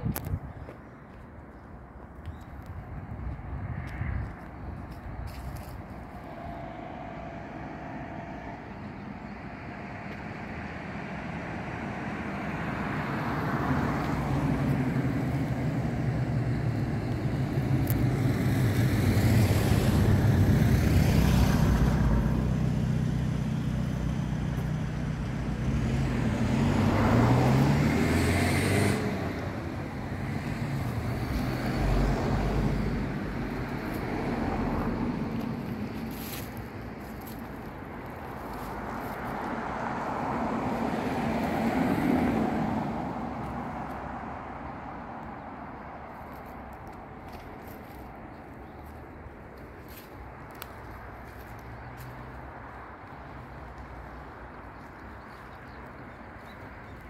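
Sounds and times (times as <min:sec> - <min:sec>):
vehicles passing with engine hum: 0:00.0 - 0:57.0.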